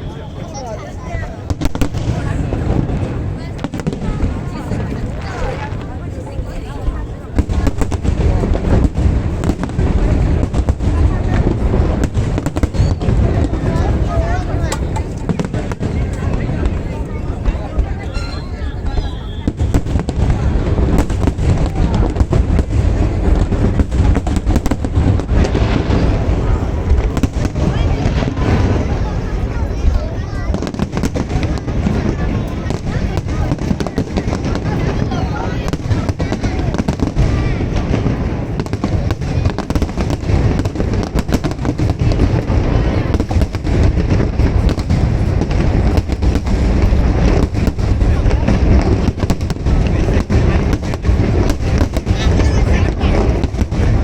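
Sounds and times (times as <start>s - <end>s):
firework bangs: 0.0s - 54.0s.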